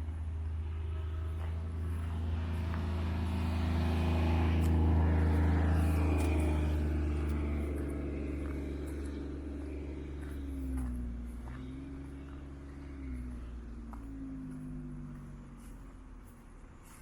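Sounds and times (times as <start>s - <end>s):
steady low hum: 0.0s - 17.0s
vehicle passing by: 0.0s - 17.0s.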